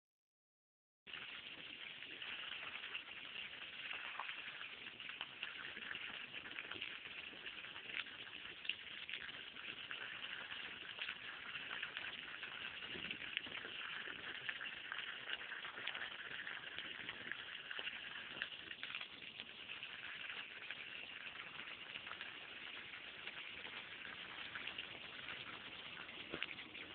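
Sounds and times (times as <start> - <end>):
hose water splashing on grass: 1.1 - 26.9.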